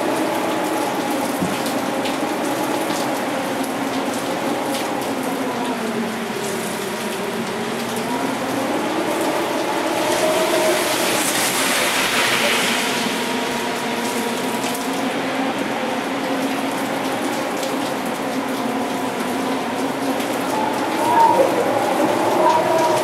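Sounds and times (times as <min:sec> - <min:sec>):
heavy rain: 0:00.0 - 0:23.0
rushing water: 0:00.0 - 0:23.0.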